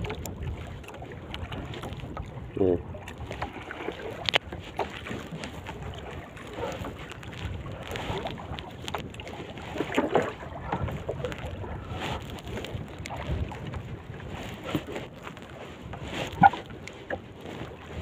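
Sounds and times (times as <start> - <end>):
water lapping at boat: 0.0 - 18.0
wind buffeting microphone: 0.0 - 18.0.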